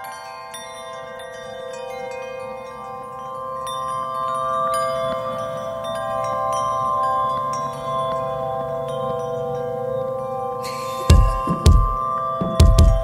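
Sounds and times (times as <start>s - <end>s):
held chord of steady tones: 0.0s - 13.0s
wind chimes tinkling: 0.0s - 13.0s.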